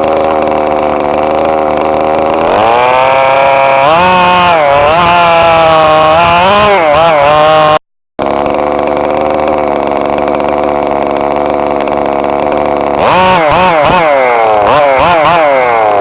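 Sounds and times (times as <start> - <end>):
radio-controlled car engine revving: 0.0 - 16.0.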